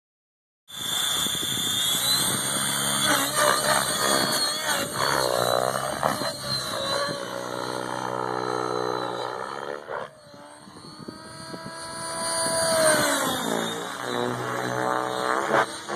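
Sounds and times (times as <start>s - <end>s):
model helicopter motor whine: 0.7s - 15.9s
rotor blades buzzing: 0.7s - 15.9s.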